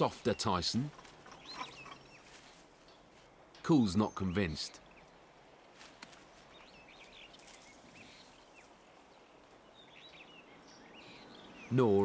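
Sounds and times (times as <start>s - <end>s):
faint high chirping calls: 0.0s - 12.0s.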